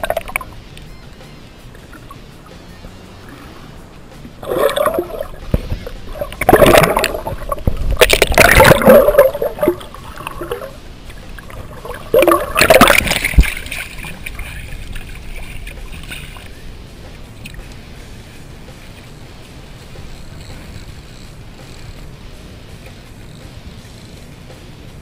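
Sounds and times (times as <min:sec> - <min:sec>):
water gurgling and sloshing: 0:00.0 - 0:25.0.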